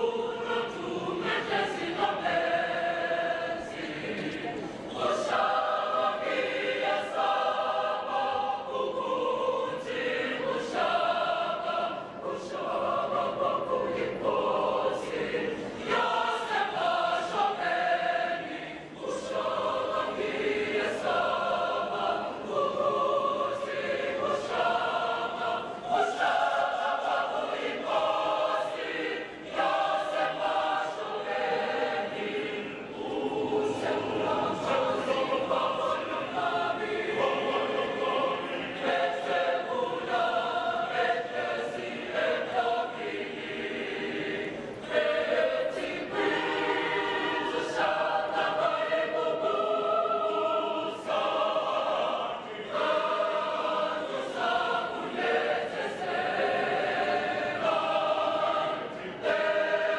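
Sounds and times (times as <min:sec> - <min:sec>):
children's choir singing in harmony: 0:00.0 - 0:59.9.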